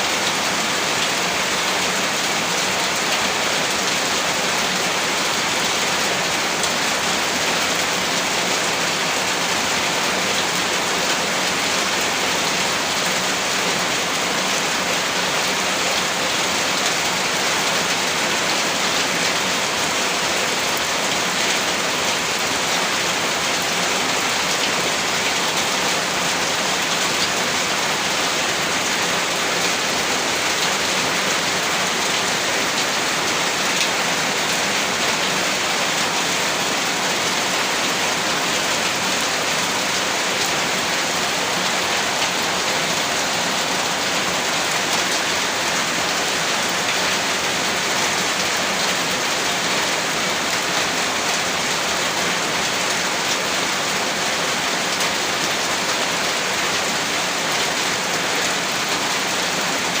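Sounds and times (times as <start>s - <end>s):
heavy rain downpour: 0.0s - 60.0s.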